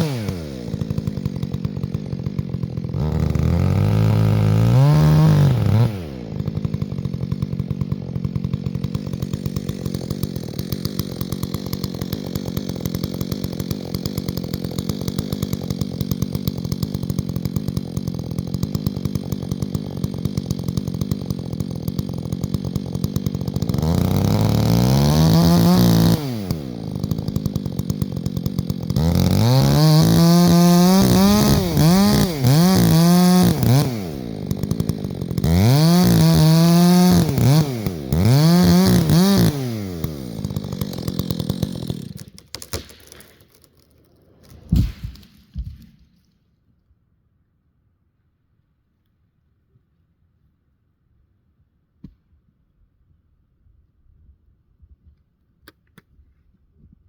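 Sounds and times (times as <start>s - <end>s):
chainsaw engine idling and revving: 0.0s - 45.8s.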